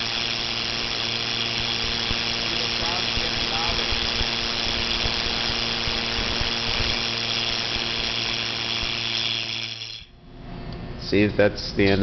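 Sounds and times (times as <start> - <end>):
steady buzzing tone: 0.0 - 10.4.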